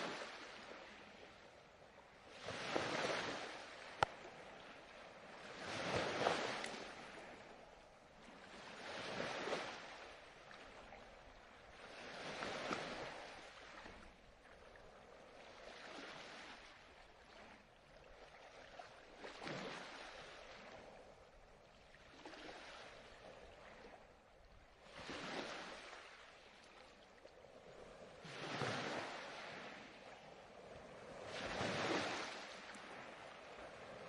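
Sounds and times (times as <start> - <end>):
faint ocean surf: 0.0 - 34.0.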